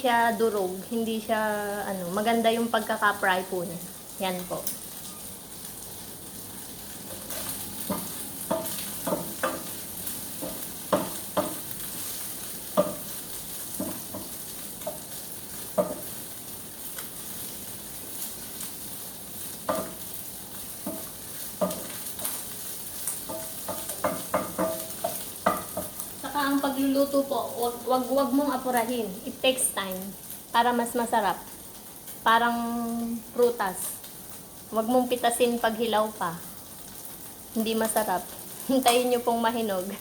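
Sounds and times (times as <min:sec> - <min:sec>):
oil sizzling: 0:00.0 - 0:40.0.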